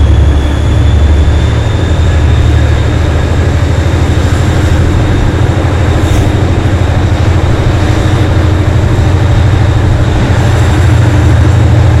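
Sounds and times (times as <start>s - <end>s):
locomotive diesel engine throbbing: 0.0s - 12.0s.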